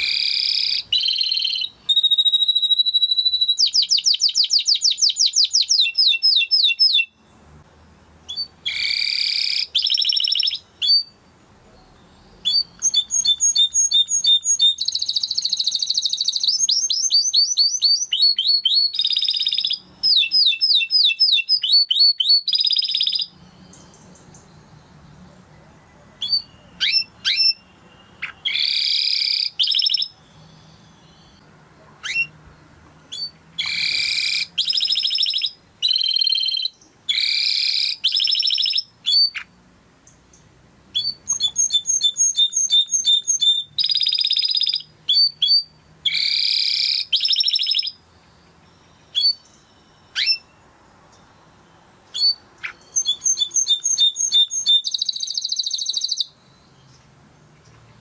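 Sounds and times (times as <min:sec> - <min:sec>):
canary singing trills: 0:00.0 - 0:07.5, 0:08.1 - 0:58.0.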